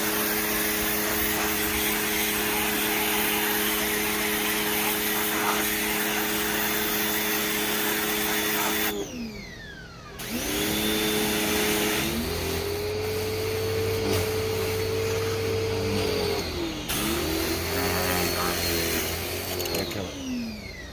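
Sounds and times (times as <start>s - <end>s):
pressure washer motor whining: 0.0s - 20.9s.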